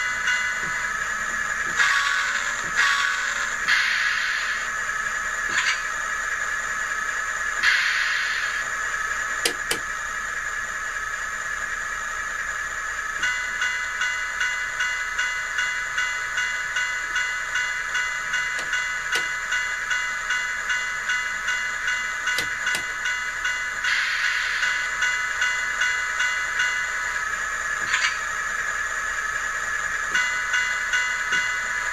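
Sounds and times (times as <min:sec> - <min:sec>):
model locomotive idle from speaker: 0:00.0 - 0:31.9
pulsing ringing: 0:00.0 - 0:31.9.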